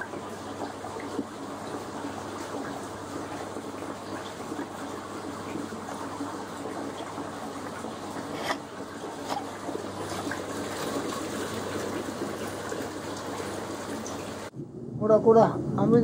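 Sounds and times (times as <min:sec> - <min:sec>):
rushing water: 0:00.0 - 0:14.5.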